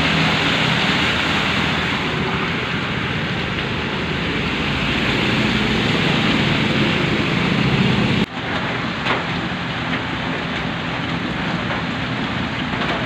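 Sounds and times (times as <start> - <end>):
car traffic on flooded road: 0.0 - 13.0
heavy rain hissing: 0.0 - 13.0
motorbike engines: 0.0 - 13.0
tyres splashing through water: 0.0 - 13.0.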